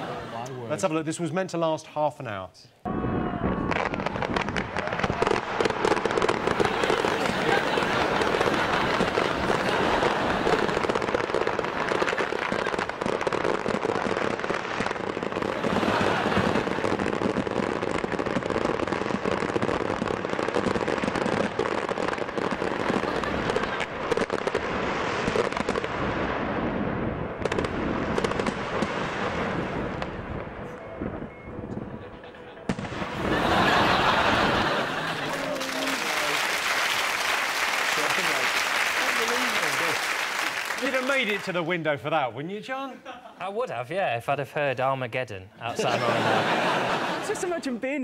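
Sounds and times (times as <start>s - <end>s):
fireworks bangs and crackling: 2.9s - 41.8s.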